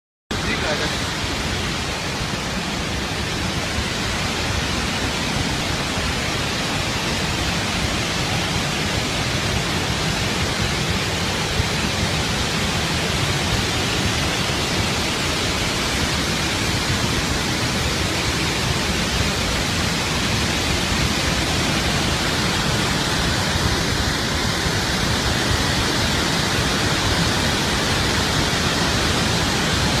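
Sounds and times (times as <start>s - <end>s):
water gushing: 0.3s - 30.0s.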